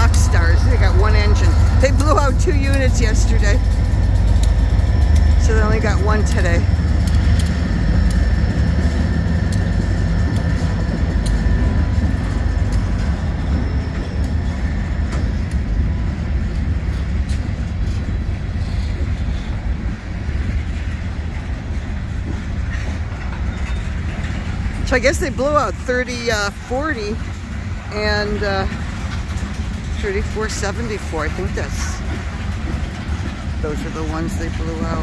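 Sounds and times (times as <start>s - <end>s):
light rail clicks: 0.0s - 35.0s
steel wheels rumbling on track: 0.0s - 35.0s.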